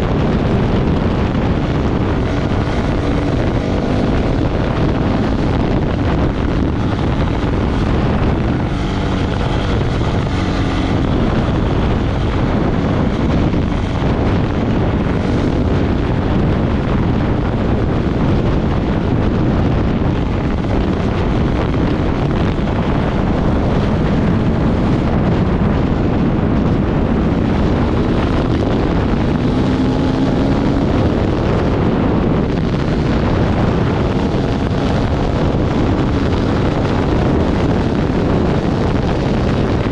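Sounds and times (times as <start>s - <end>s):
dirt bike engine running: 0.0s - 39.9s
wind noise on microphone: 0.0s - 39.9s.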